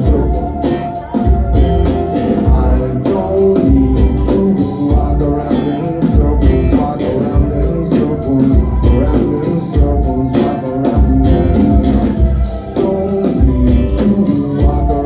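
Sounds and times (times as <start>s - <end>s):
heavy bass: 0.0s - 15.0s
live band playing: 0.0s - 15.0s
steady drum beat: 0.0s - 15.0s.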